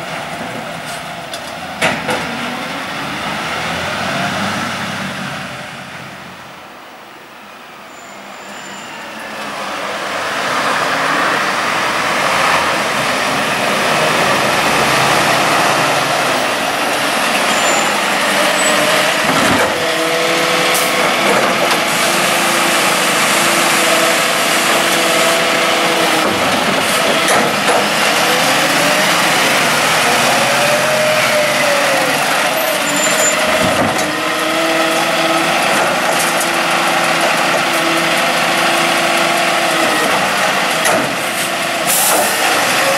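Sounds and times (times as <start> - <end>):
garbage truck engine: 0.0 - 6.8, 7.9 - 42.9.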